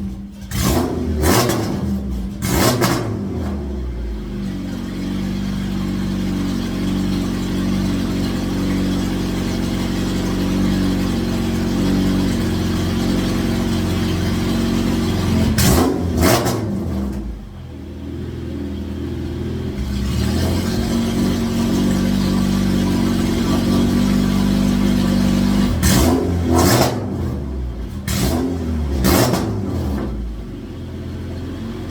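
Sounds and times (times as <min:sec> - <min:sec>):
car engine idling: 0:00.0 - 0:31.9
engine throttle blips: 0:00.0 - 0:31.9.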